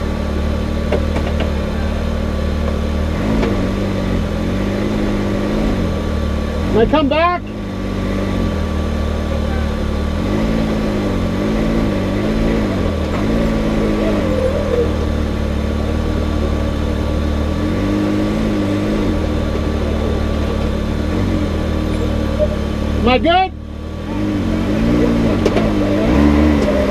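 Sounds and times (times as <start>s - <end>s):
engine idling: 0.0s - 26.9s
engine throttle blips: 0.0s - 26.9s.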